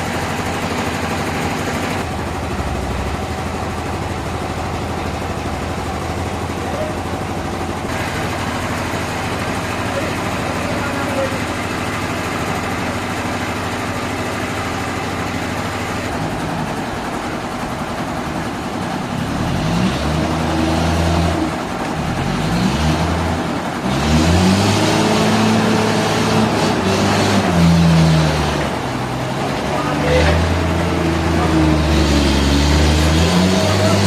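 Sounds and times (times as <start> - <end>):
engine running and revving: 0.0 - 34.0.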